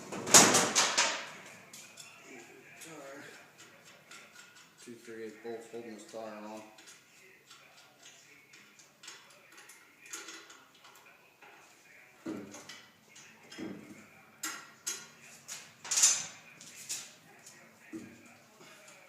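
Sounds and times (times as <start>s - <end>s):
metal tools clinking and knocking: 0.5s - 5.4s, 6.0s - 11.7s, 12.3s - 17.6s.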